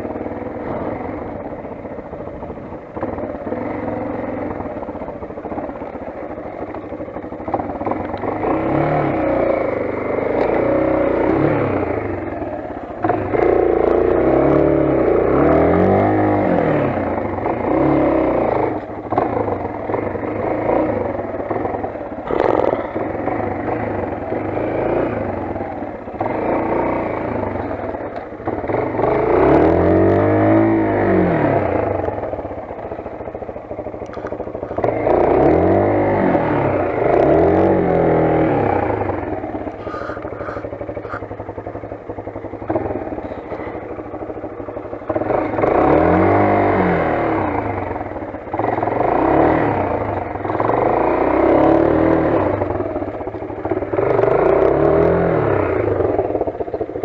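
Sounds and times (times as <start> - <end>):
clatter: 0.0 - 57.0
motorcycle engine revving: 0.0 - 57.0.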